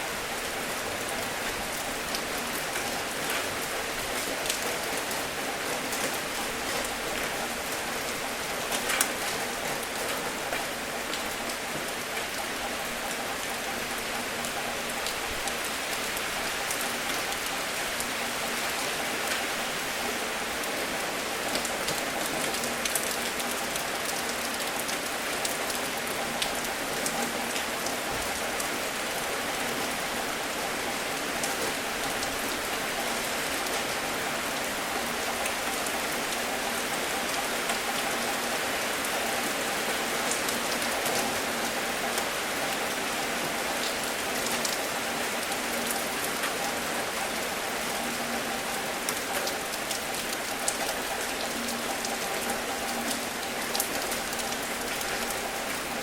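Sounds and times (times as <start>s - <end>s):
raindrops ticking on a surface: 0.0s - 56.0s
steady rain hiss: 0.0s - 56.0s.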